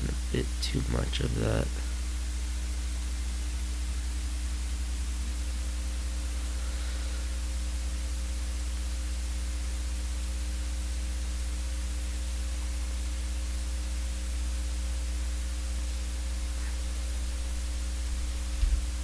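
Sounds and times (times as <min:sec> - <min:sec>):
constant hiss: 0:00.0 - 0:19.0
low electrical hum: 0:00.0 - 0:19.0.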